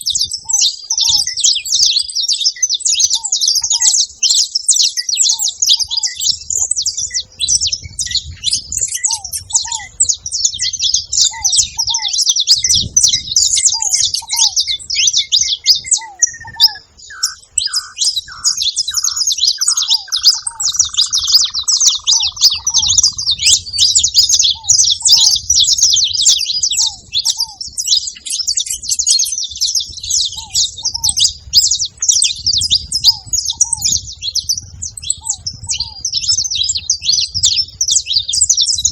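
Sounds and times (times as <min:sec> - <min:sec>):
flock of finches chirping: 0:00.0 - 0:38.9.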